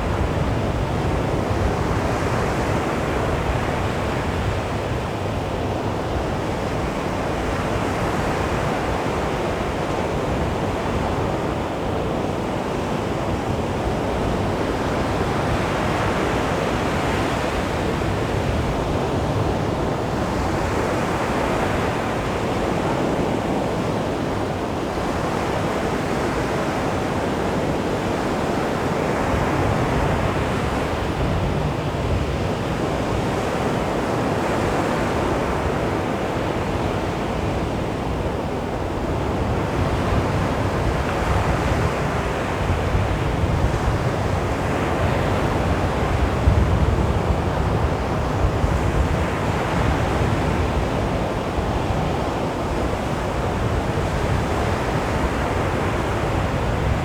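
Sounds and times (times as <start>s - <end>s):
waves washing on beach: 0.0s - 57.0s
wind on microphone: 0.0s - 57.0s.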